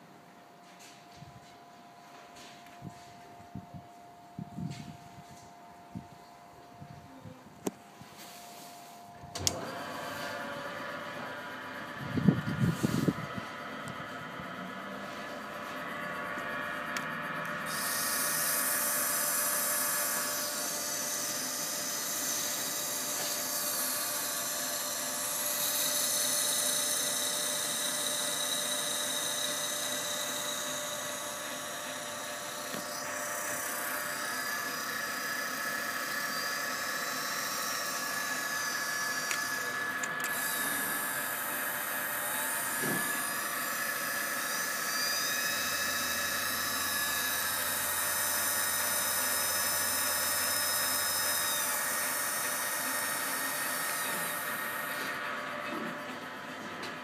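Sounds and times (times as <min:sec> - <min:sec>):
lathe high whine: 0:07.6 - 0:57.0.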